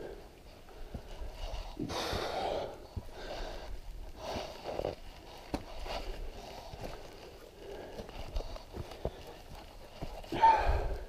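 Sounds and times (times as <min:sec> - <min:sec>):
person breathing hard: 0:00.0 - 0:05.0, 0:05.8 - 0:11.0
footsteps on a trail: 0:00.0 - 0:11.0.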